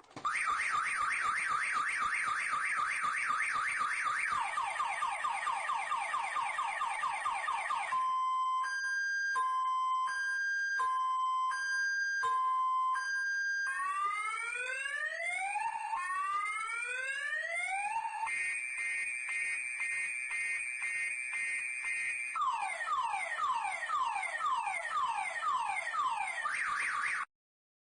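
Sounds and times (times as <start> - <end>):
car alarm siren: 0.2 - 27.3.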